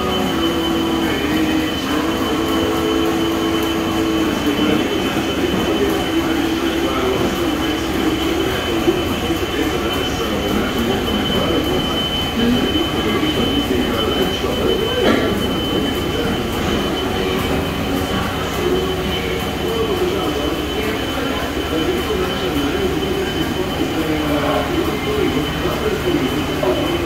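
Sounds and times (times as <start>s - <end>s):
lathe machine whining and humming: 0.0s - 27.0s.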